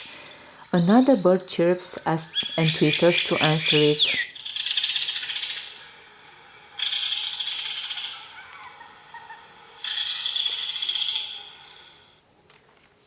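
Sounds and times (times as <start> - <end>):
recorded birds chirping from small speaker: 0.0 - 12.2.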